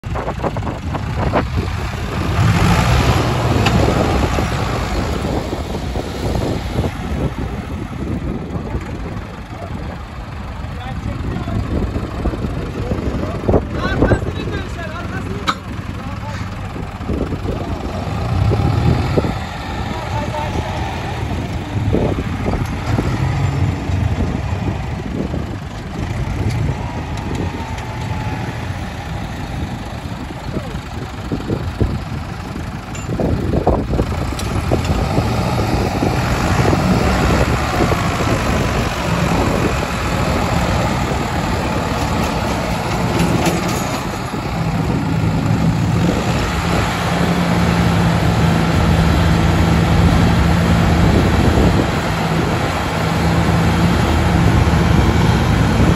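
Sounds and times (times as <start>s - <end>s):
tractor diesel engines straining: 0.0s - 55.9s.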